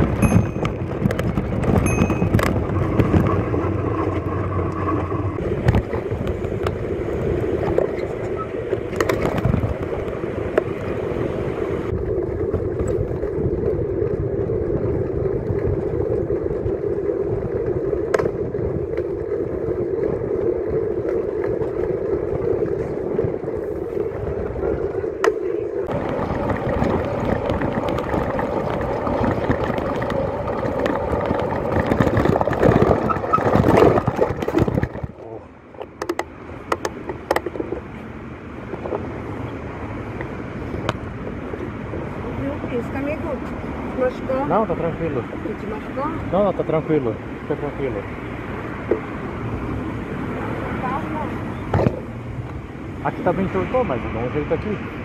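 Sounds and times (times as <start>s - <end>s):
wind on microphone: 0.0s - 46.4s
road and traffic noise: 0.0s - 55.0s.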